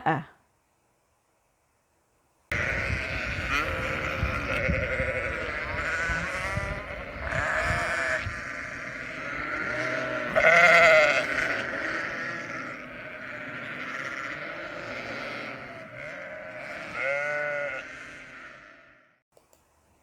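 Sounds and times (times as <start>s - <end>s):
sheep bleating: 2.5s - 19.1s.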